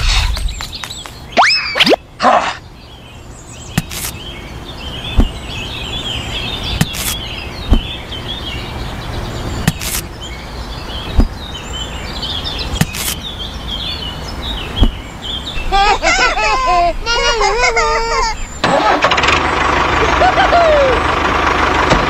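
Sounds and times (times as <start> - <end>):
birds chirping: 0.0 - 21.9
outdoor background hum: 0.0 - 22.0.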